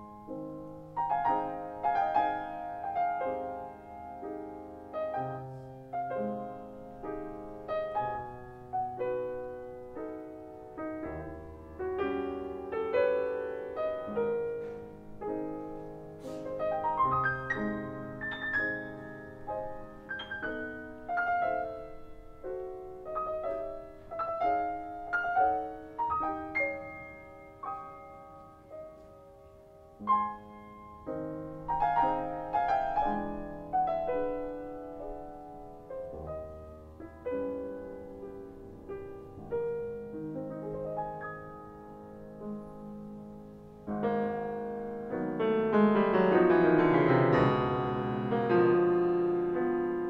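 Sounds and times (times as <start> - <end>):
solo grand piano: 0.0 - 50.0.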